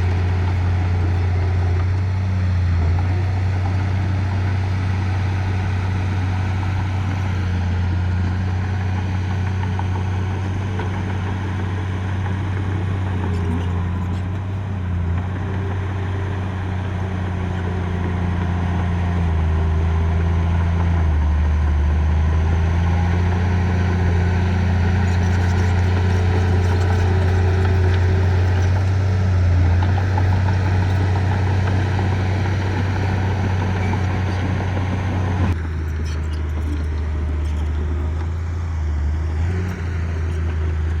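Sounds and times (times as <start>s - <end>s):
heavy machine engine humming: 0.0s - 41.0s.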